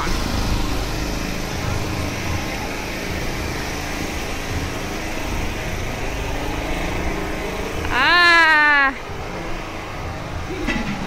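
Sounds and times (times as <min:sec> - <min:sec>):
power generator droning: 0:00.0 - 0:11.0.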